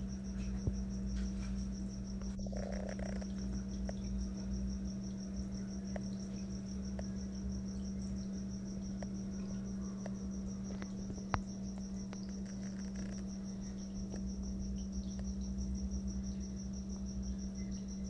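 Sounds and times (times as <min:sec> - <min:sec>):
pulsing insect-like chirp: 0:00.0 - 0:18.0
steady low hum: 0:00.0 - 0:18.0.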